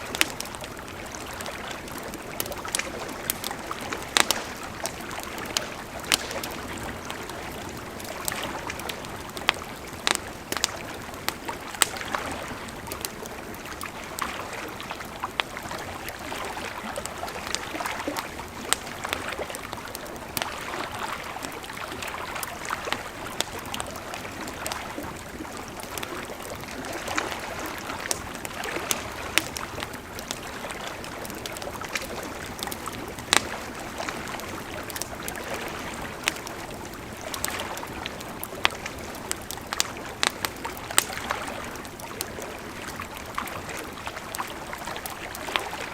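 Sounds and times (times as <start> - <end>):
campfire crackling and popping: 0.0 - 45.9
flowing river: 0.0 - 45.9.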